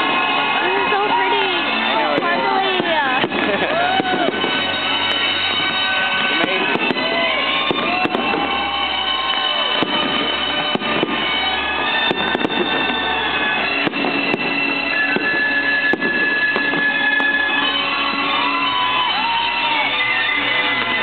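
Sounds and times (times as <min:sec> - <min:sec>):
fireworks bangs: 0:00.0 - 0:21.0
fireworks crackling and popping: 0:00.0 - 0:21.0
fireworks whistles: 0:00.0 - 0:21.0.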